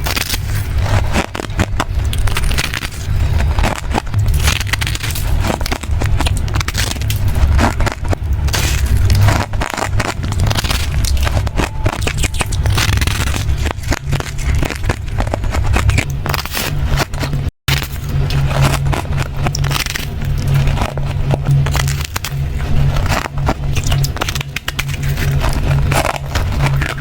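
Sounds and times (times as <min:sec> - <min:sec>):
ice being chewed: 0:00.0 - 0:27.0.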